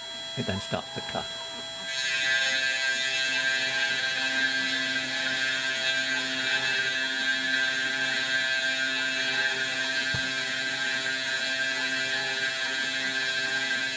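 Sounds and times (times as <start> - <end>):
spindle motor whining: 0.0 - 13.9.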